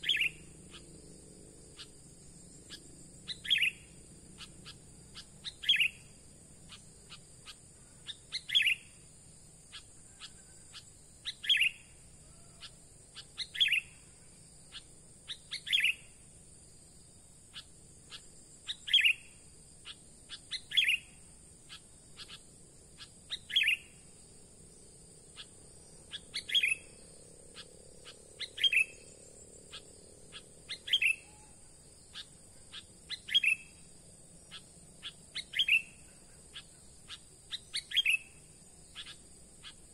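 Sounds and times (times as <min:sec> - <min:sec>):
bird chirping: 0:00.0 - 0:16.2, 0:17.5 - 0:39.9.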